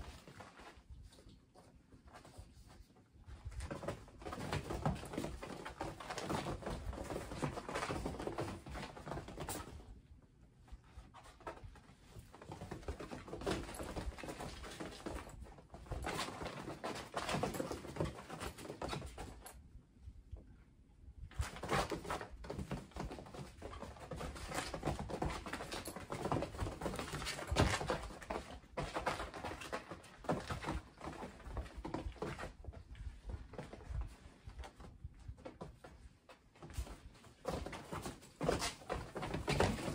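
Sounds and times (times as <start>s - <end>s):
kittens scampering on fabric: 0.0s - 19.8s, 21.3s - 39.9s.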